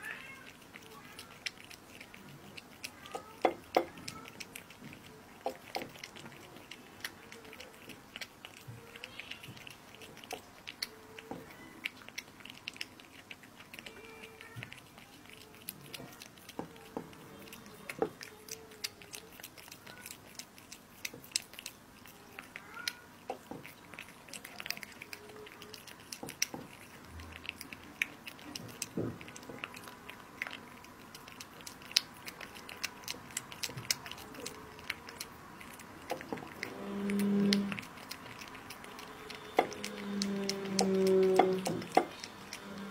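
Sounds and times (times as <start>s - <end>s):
cat chewing and smacking: 0.0s - 42.9s.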